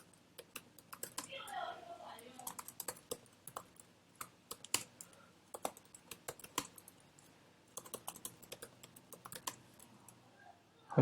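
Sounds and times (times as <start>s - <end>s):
keyboard typing: 0.0s - 1.6s, 2.2s - 10.2s.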